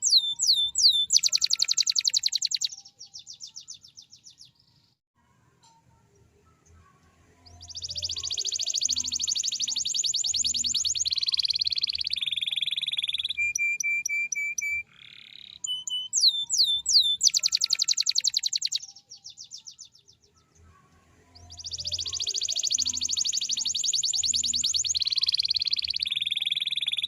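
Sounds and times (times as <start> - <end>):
canary singing trills: 0.0 - 4.7, 6.2 - 27.0.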